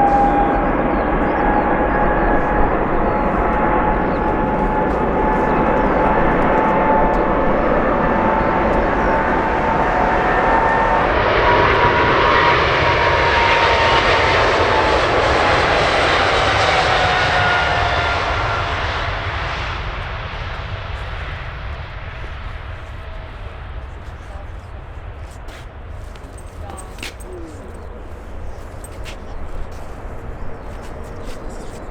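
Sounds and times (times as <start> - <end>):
jet aircraft passing: 0.0 - 31.9.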